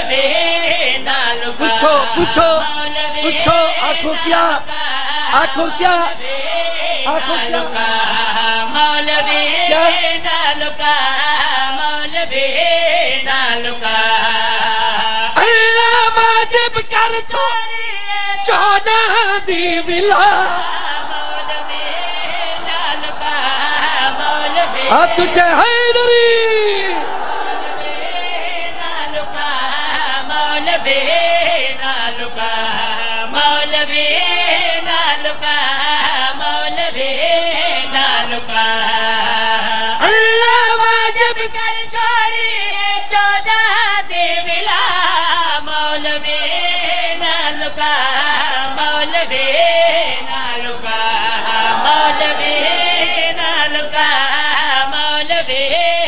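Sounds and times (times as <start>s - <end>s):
person singing melodic chant: 0.0s - 56.0s.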